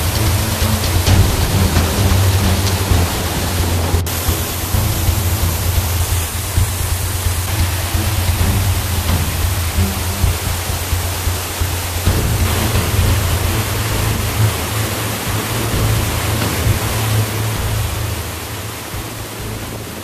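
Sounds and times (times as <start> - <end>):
faint music: 0.0 - 20.0
waterfall rushing over boulders: 0.0 - 20.0.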